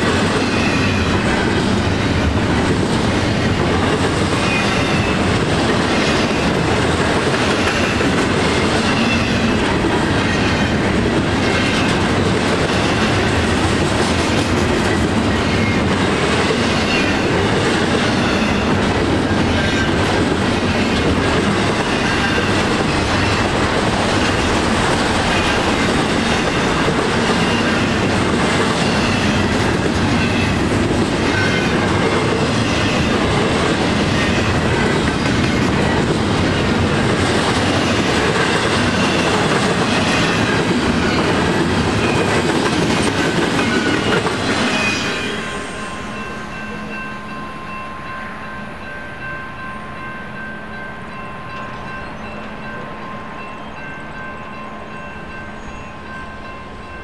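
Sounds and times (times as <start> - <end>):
train wheels clattering on track: 0.0 - 47.6.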